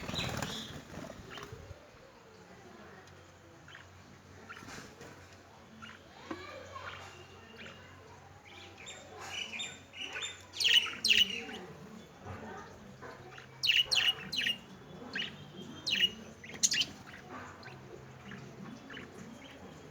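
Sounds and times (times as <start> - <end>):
lovebirds chirping: 0.0 - 1.8, 2.7 - 19.9.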